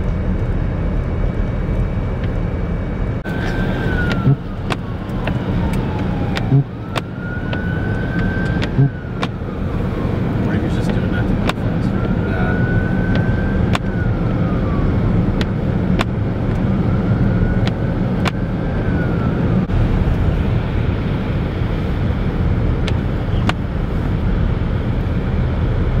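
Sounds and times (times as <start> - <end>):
faint whine: 0.0 - 25.8
car engine and tyres on wet road: 0.0 - 26.0.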